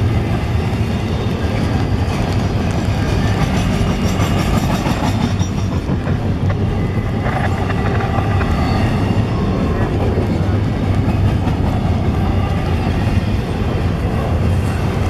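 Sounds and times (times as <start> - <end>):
steel wheels on rails: 0.0 - 15.0.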